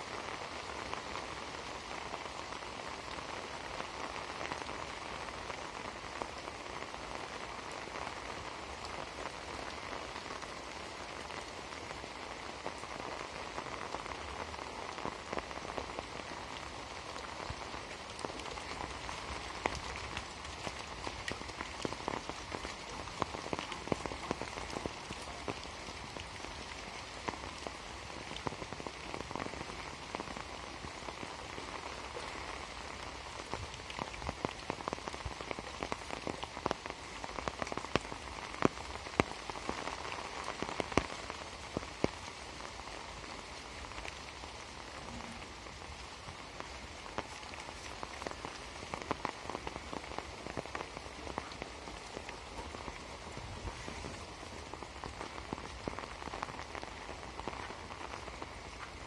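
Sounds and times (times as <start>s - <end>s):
rain falling: 0.0s - 59.0s
sharp raindrop taps: 0.4s - 59.0s.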